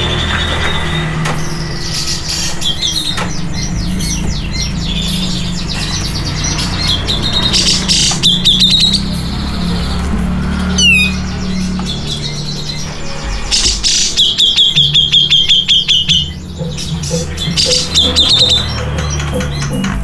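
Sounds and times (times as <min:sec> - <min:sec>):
bird singing chattering chirps: 0:00.0 - 0:20.0.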